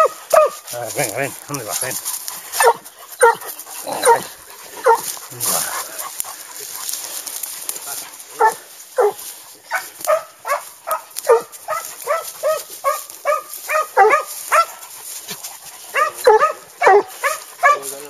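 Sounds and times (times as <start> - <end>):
hound yelping: 0.0 - 7.0, 8.4 - 18.0.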